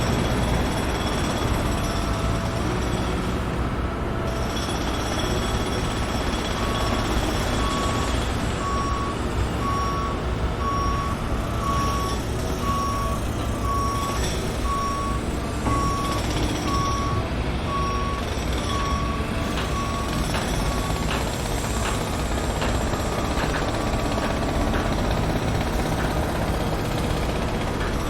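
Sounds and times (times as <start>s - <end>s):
truck engine rumble: 0.0s - 28.0s
truck reversing alarm beeping: 0.0s - 28.0s.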